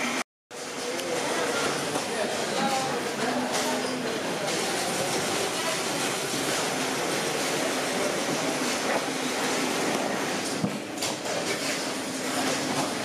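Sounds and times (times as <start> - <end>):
factory machinery running: 0.0 - 13.0.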